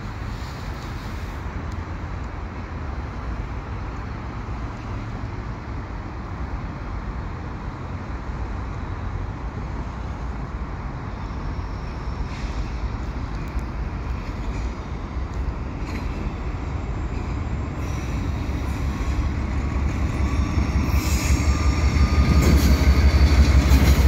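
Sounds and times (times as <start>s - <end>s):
highway traffic noise: 0.0s - 24.0s.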